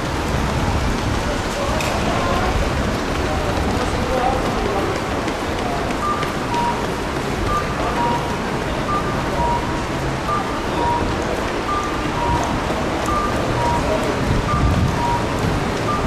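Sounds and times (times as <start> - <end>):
noisy street background: 0.0 - 16.0.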